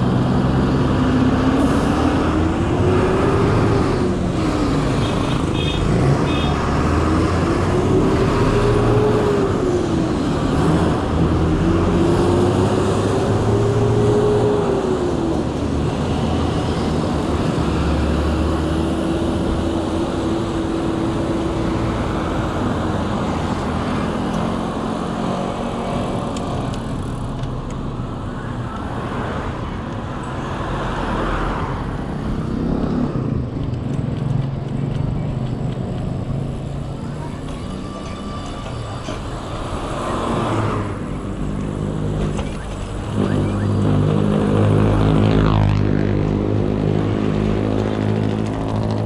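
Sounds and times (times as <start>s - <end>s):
traffic rumble: 0.0s - 49.0s.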